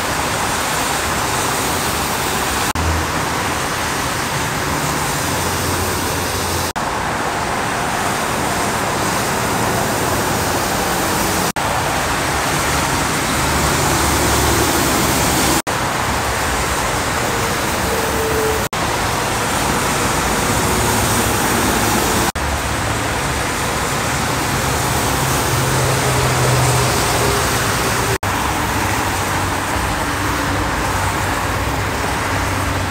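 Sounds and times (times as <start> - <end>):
tyres hissing on wet pavement: 0.0 - 32.9.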